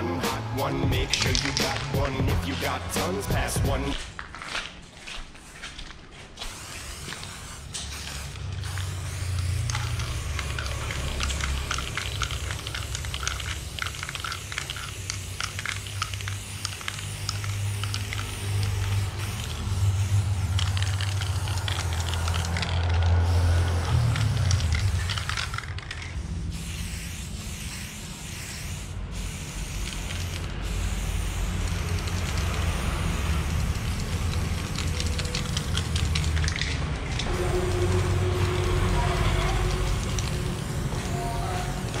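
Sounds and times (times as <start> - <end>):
spray can hissing: 0.3 - 3.6, 5.4 - 42.0.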